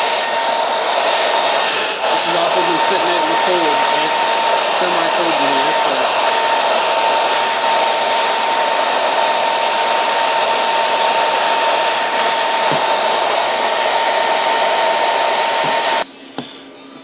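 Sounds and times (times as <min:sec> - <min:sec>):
hair dryer running: 0:00.0 - 0:16.1.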